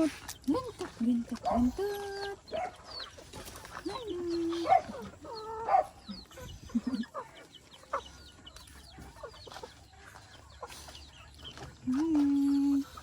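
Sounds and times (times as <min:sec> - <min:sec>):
chickens clucking and calling: 0:00.0 - 0:13.0
high cheeping chicks: 0:00.0 - 0:13.0.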